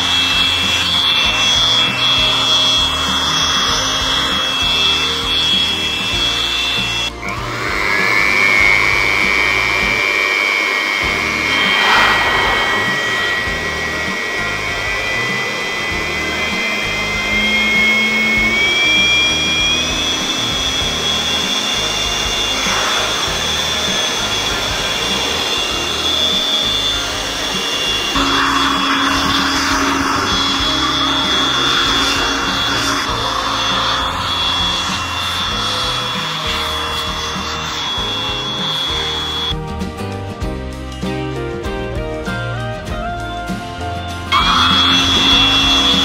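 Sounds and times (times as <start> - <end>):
electric blower running: 0.0 - 39.8, 44.1 - 46.0.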